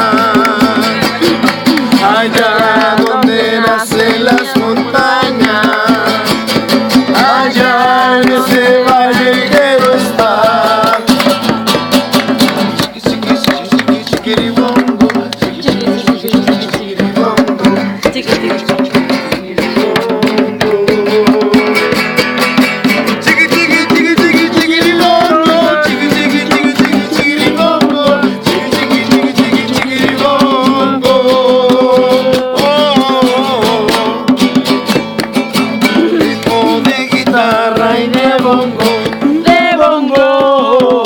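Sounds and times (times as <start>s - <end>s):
bongo drums: 0.0s - 41.0s
strummed acoustic guitar: 0.0s - 41.0s.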